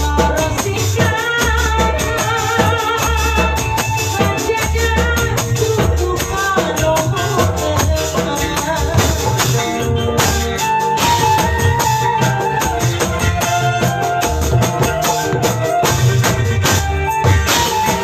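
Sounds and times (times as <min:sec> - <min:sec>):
live band music: 0:00.0 - 0:18.0.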